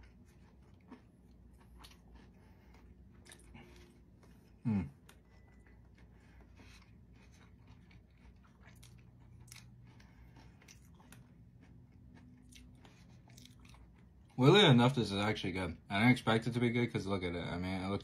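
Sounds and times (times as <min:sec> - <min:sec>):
person chewing crunchy food: 0:00.0 - 0:14.4.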